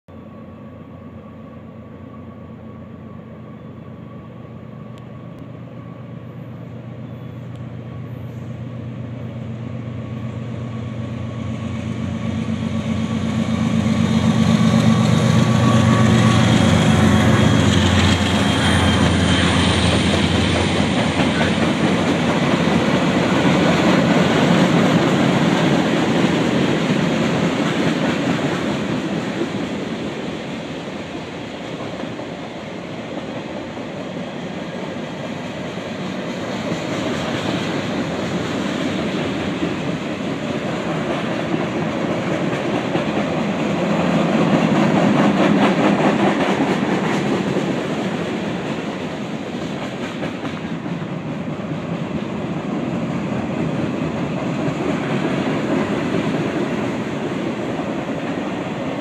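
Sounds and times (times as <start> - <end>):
diesel locomotive engines: 0.1 - 59.0
freight cars rumbling on rails: 3.5 - 59.0.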